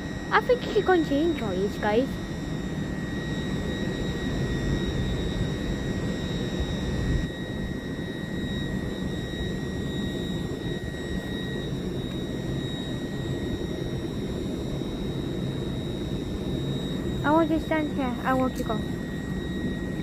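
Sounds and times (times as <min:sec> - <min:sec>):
high electric whine: 0:00.0 - 0:20.0.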